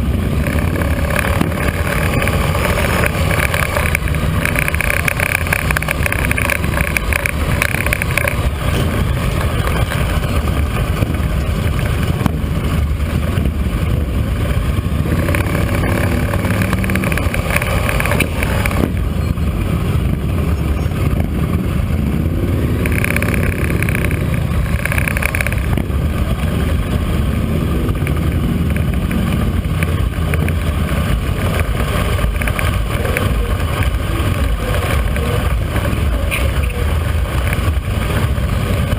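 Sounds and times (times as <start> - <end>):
motorcycle engine running: 0.0 - 38.9
rushing ride noise: 0.0 - 38.9.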